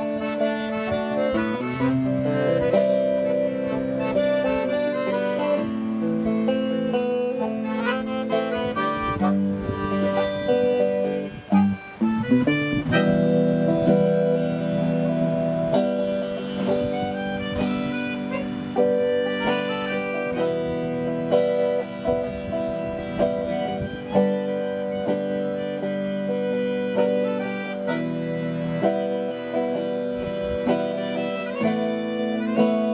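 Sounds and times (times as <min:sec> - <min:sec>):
accordion chords and melody: 0:00.0 - 0:32.9
plucked guitar notes: 0:00.0 - 0:32.9.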